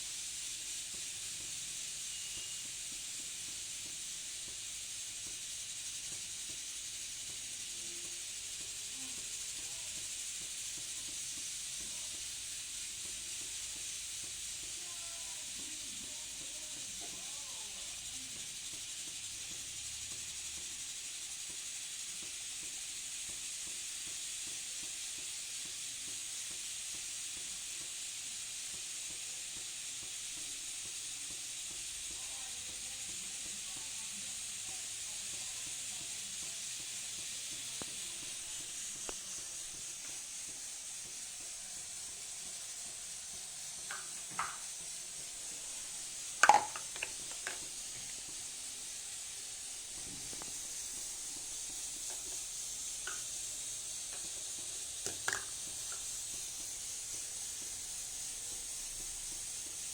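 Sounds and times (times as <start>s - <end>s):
bottle warmer hissing and sizzling: 0.0s - 59.9s.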